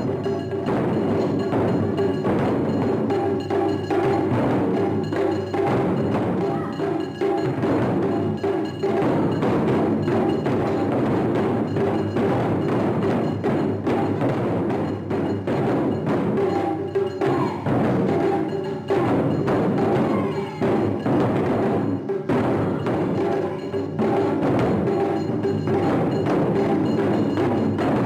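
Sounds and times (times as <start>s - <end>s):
taiko drums playing: 0.0s - 28.0s.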